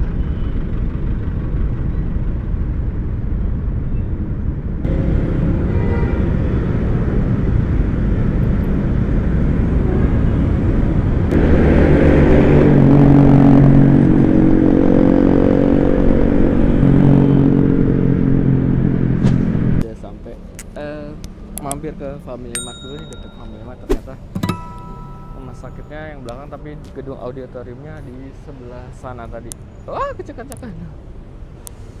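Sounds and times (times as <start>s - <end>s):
motor scooter engines in traffic: 0.0s - 32.0s
steady engine hum: 0.0s - 32.0s.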